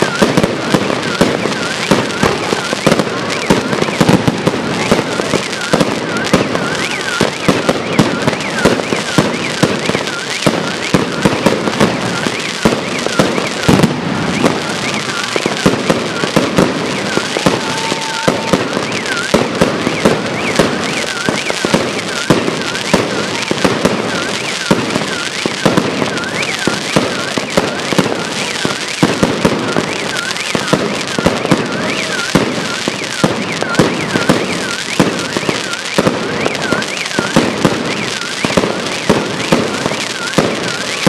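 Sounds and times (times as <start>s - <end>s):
fireworks bursting and crackling: 0.0s - 41.0s.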